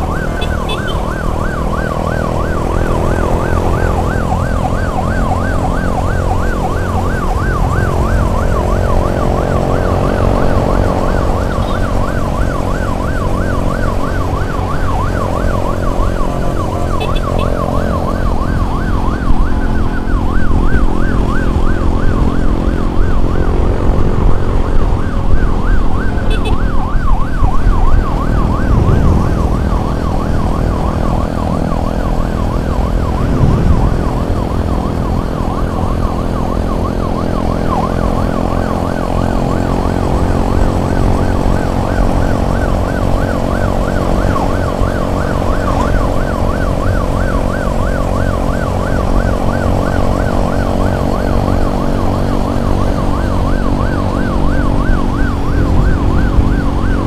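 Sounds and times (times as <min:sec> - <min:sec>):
emergency siren yelping: 0:00.0 - 0:57.0
vehicle engine drone: 0:00.0 - 0:57.0.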